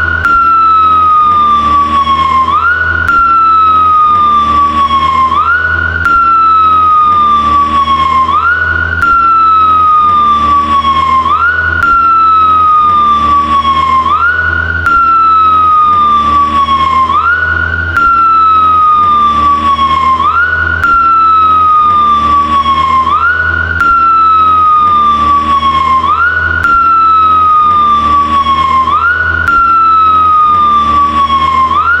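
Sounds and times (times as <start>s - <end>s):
motorcycle siren wailing: 0.0s - 32.0s.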